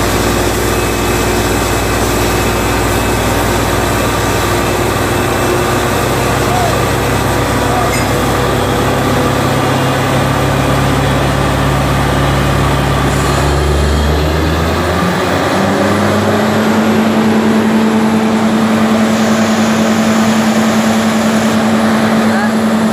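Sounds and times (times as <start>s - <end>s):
drilling rig engine droning: 0.0s - 22.9s.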